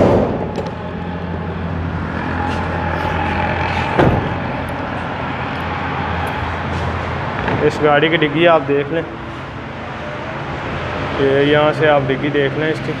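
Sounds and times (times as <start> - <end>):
low vehicle rumble: 0.0 - 11.2.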